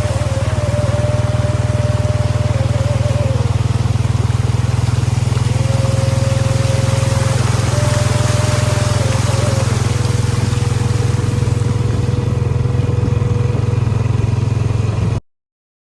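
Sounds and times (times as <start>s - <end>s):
rushing noise: 0.0s - 13.8s
vehicle engine droning: 0.0s - 15.2s.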